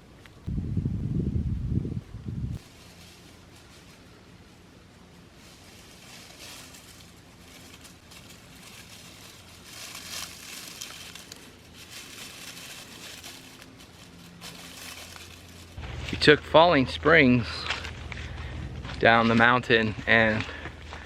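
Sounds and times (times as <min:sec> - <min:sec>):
dry leaves rustling: 0:02.5 - 0:21.0.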